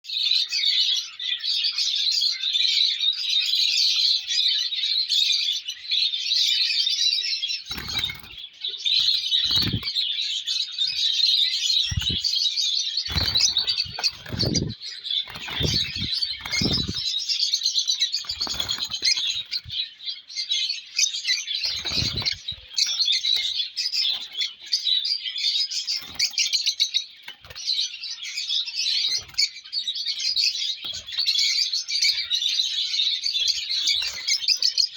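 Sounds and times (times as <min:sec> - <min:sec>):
bird chicks chirping: 0:00.0 - 0:34.9.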